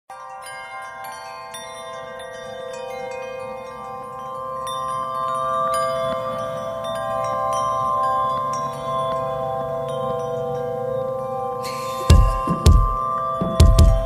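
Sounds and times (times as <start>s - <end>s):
tinkling chimes music: 0.1s - 14.0s.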